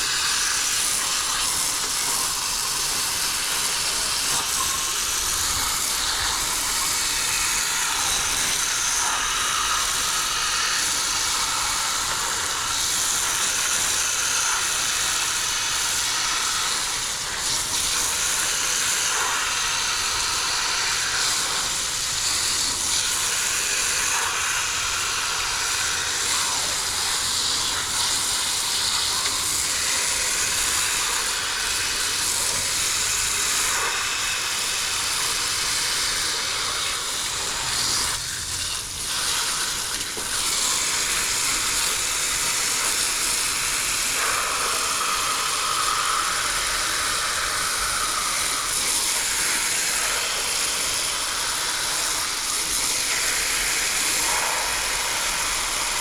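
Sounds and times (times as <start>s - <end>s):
water spraying from a hose: 0.0s - 56.0s.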